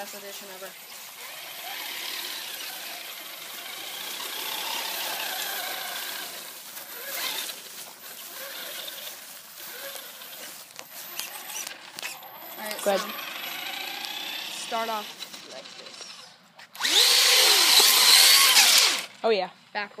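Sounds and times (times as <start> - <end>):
rc truck electric motor whine: 0.0 - 19.2
tyres on grass: 0.0 - 19.9.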